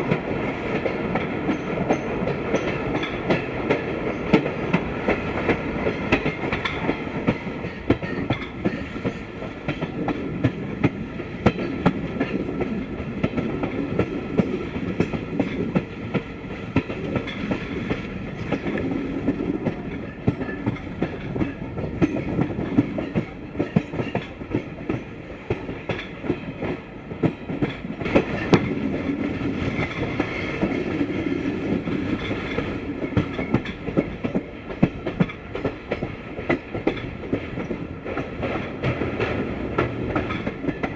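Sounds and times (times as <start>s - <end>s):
train coaches rumbling: 0.0s - 40.9s
train wheels clicking on track: 0.0s - 40.9s.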